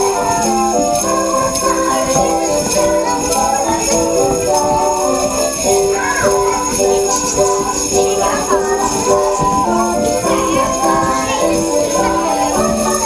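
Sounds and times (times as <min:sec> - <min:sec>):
music with melody: 0:00.0 - 0:13.0
sleigh bells jingling: 0:00.0 - 0:13.0.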